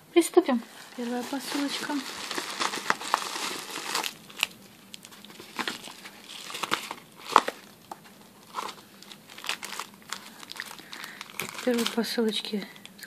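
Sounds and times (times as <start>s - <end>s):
paper mailer crinkling: 0.7s - 12.6s.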